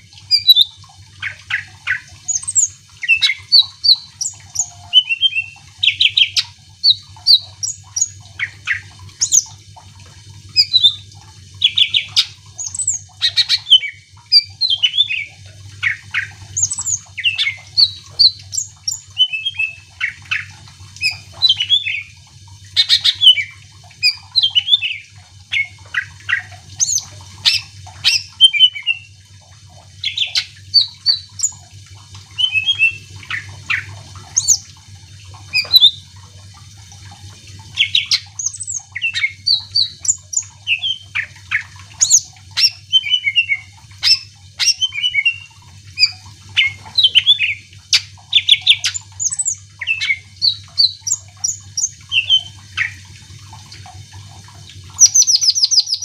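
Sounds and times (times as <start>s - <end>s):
bird singing chirps and whistles: 0.3s - 9.5s, 10.6s - 11.0s, 11.6s - 22.2s, 22.8s - 29.1s, 30.0s - 31.6s, 32.3s - 34.6s, 35.5s - 36.0s, 37.8s - 53.0s, 55.0s - 56.0s.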